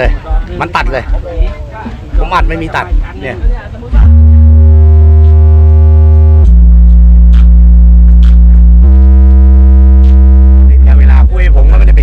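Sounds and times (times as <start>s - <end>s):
loud low bass tones: 2.2s - 12.0s.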